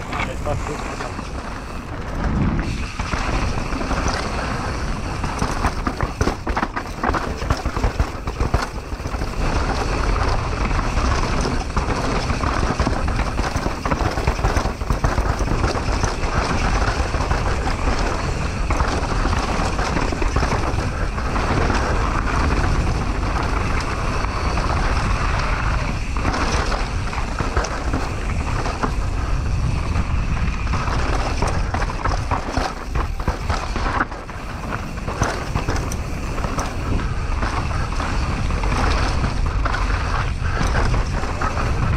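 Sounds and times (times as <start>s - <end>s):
bike rattling: 0.0s - 41.9s
tyres crunching over dirt and rock: 0.0s - 41.9s
wind rushing over microphone: 0.0s - 41.9s.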